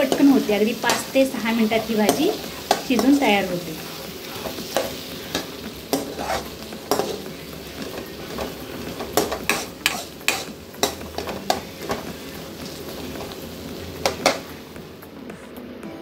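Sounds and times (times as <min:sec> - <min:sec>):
frying sizzle: 0:00.0 - 0:15.2
spatula scraping a pan: 0:00.1 - 0:13.4.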